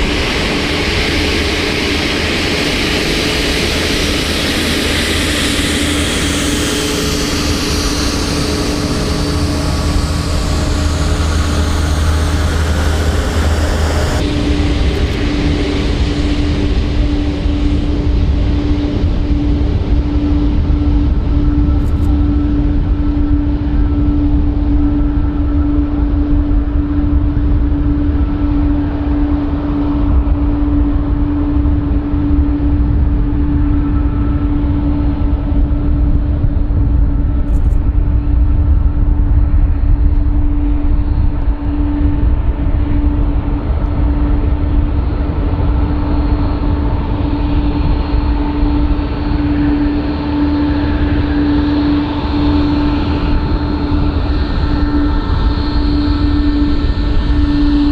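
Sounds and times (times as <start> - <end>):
jet engines humming: 0.0 - 57.9.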